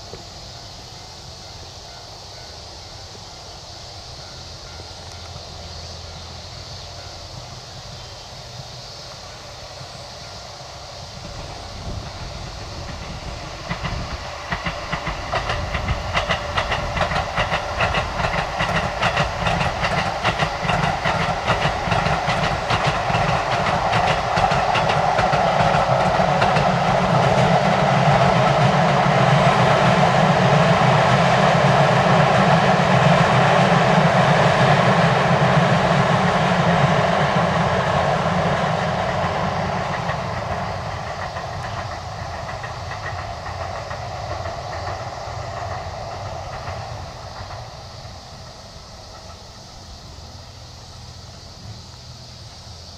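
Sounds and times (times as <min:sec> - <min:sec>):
train rolling rumble: 0:00.0 - 0:52.9
train wheels clicking over rail joints: 0:00.0 - 0:52.9.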